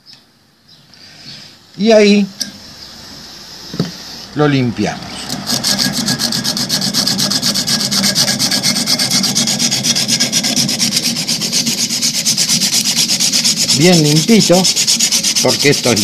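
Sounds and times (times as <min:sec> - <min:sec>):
emery cloth scraping steel tube: 0:02.3 - 0:16.0.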